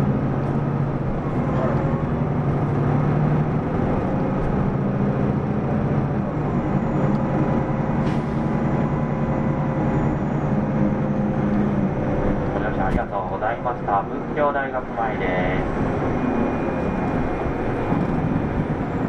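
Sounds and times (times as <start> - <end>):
diesel bus engine hum: 0.0 - 19.0.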